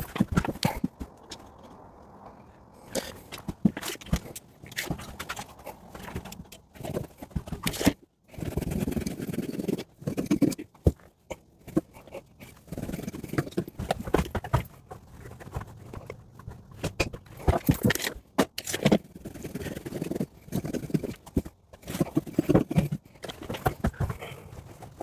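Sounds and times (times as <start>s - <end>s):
insulation scraping and rustling: 2.8s - 25.0s.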